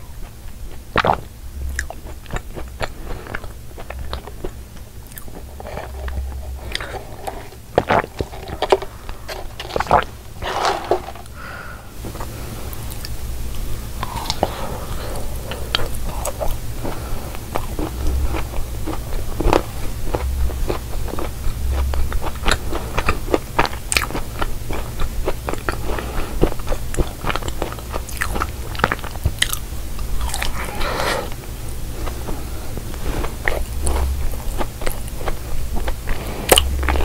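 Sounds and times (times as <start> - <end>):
chewing crunchy cookie: 0.0 - 11.4, 12.0 - 37.0.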